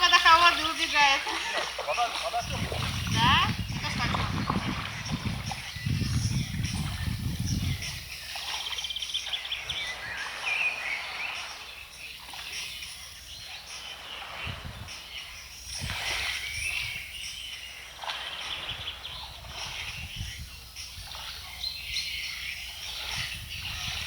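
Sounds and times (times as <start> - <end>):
small birds singing: 0.0 - 24.0.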